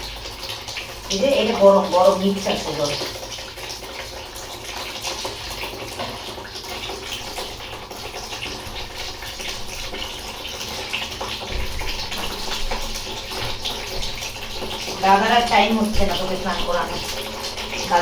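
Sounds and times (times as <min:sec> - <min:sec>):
water running and splashing: 0:00.0 - 0:18.0.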